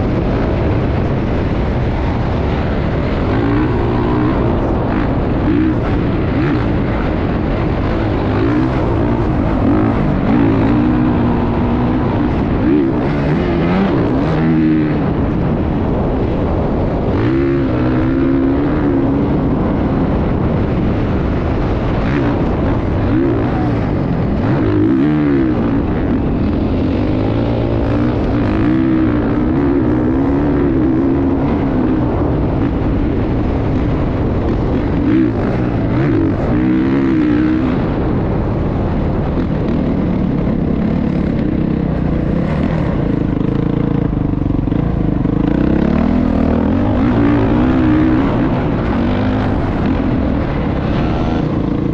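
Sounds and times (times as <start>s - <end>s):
motorbike engine revving: 0.0s - 51.9s
steady rushing noise: 0.0s - 51.9s.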